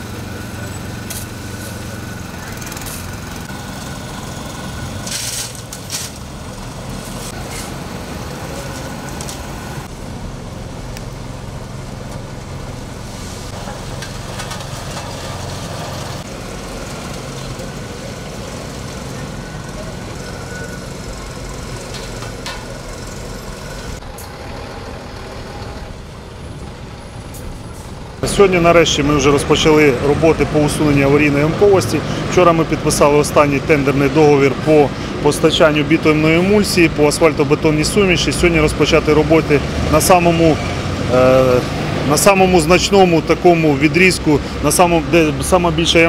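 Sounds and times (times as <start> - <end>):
street traffic passing: 0.0 - 46.0
truck and roller engines running: 0.0 - 46.0.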